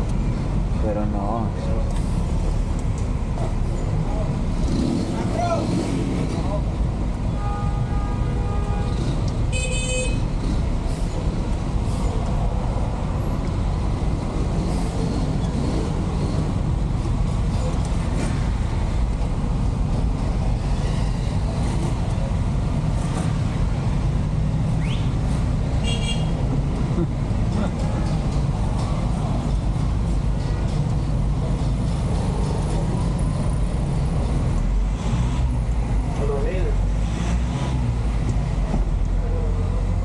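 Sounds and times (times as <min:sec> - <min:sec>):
truck engine rumble: 0:00.0 - 0:07.4, 0:08.7 - 0:40.0
traffic noise: 0:00.0 - 0:40.0.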